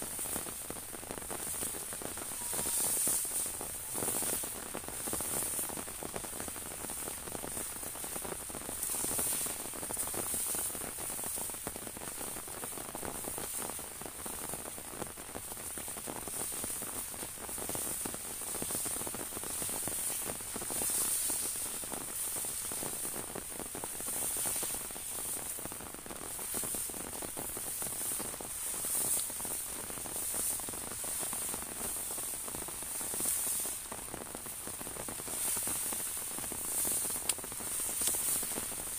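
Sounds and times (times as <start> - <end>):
rain on an umbrella: 0.0 - 38.9.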